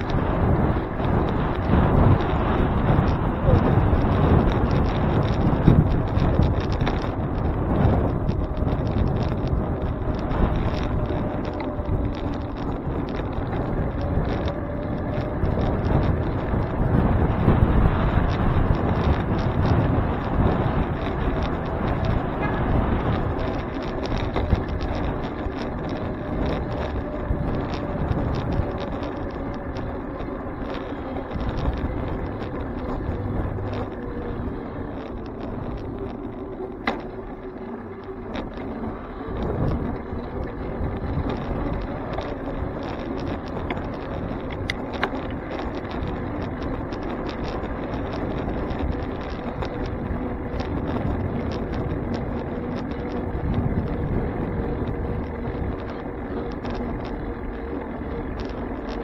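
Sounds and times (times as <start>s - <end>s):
bike rattles and clicks: 0.0s - 59.0s
tyres on pavement: 0.0s - 59.0s
wind on microphone: 0.0s - 59.0s.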